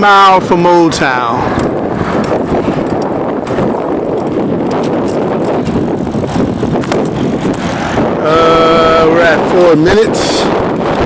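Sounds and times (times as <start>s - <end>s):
wind and road noise: 0.0s - 11.0s
wind buffeting microphone: 0.0s - 11.0s.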